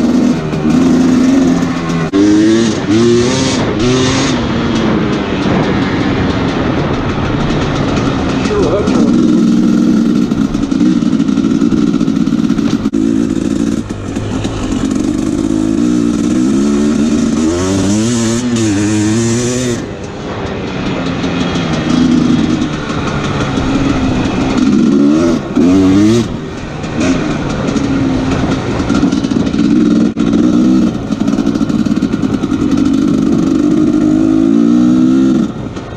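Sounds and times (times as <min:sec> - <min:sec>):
two-stroke motorcycle engine revving: 0:00.0 - 0:35.9.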